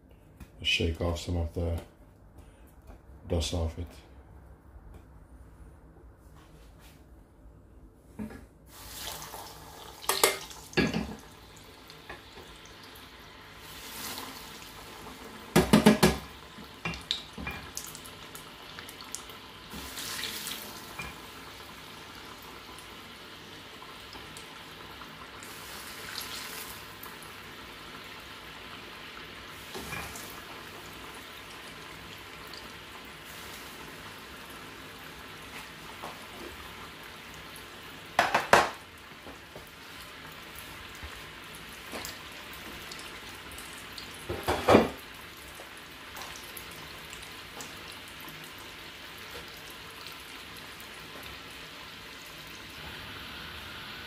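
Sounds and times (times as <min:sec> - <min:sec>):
croquettes deep-frying in oil: 0:08.7 - 0:54.0.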